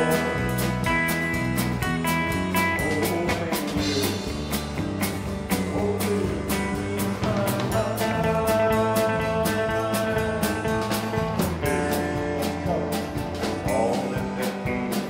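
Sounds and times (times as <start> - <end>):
drum kit beat: 0.0 - 15.0
electric bass: 0.0 - 15.0
strummed acoustic guitar: 0.0 - 15.0.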